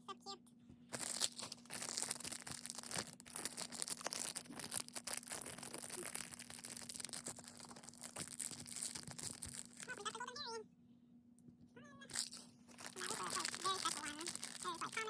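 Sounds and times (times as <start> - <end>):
plastic wrappers crinkling: 0.9 - 10.2, 12.1 - 15.0.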